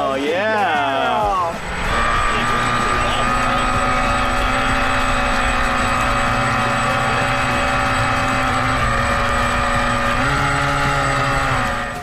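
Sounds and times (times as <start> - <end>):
model boat motor drone: 0.4 - 12.0.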